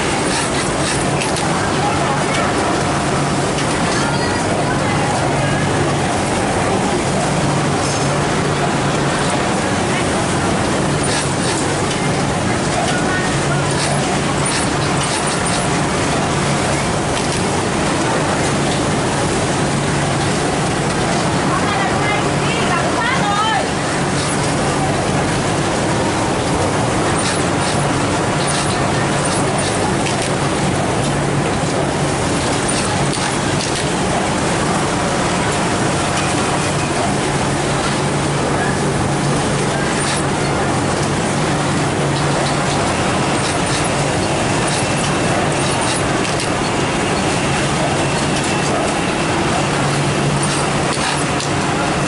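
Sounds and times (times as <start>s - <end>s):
industrial sewing machines running: 0.0s - 52.0s.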